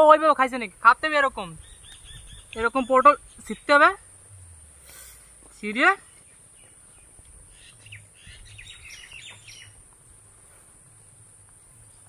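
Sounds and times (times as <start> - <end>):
insects droning: 0.0 - 12.0
small birds chirping: 0.3 - 10.6.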